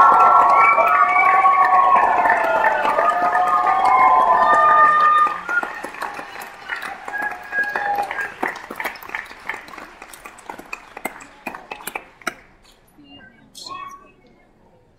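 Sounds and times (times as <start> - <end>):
audience applause: 0.0 - 12.6.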